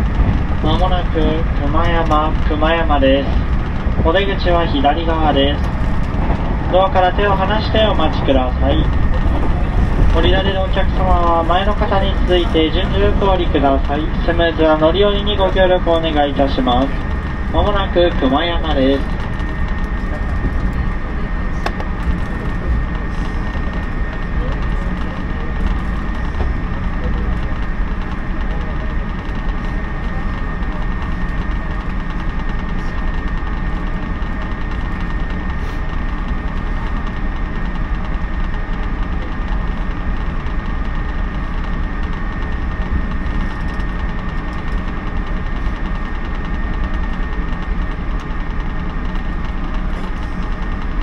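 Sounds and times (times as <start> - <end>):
train wheels rumbling: 0.0 - 51.0.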